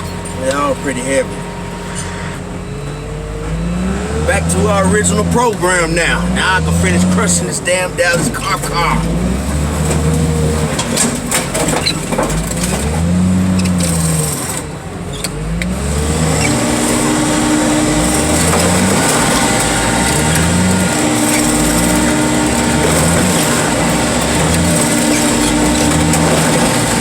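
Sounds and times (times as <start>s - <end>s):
car crusher engine and hydraulics: 0.0s - 27.0s.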